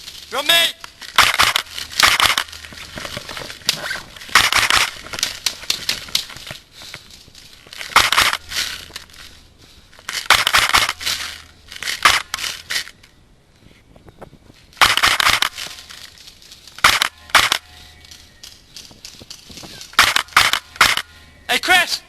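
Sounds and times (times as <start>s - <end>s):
footsteps crunching and rustling: 0.0s - 14.8s, 15.4s - 21.2s.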